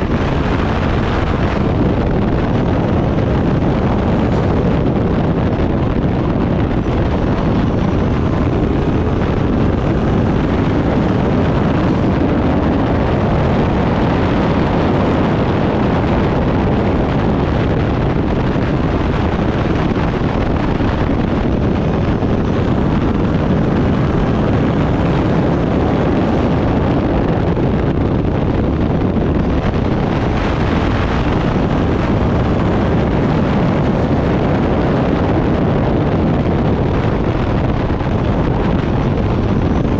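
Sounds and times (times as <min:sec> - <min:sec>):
race car engine roaring: 0:00.0 - 0:39.9
wind buffeting microphone: 0:00.0 - 0:39.9.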